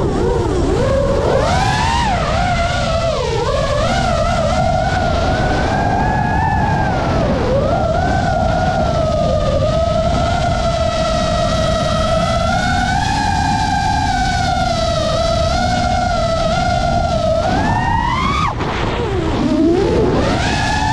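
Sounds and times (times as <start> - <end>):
quadcopter motors whining: 0.0 - 20.9
wind rushing on microphone: 0.0 - 20.9.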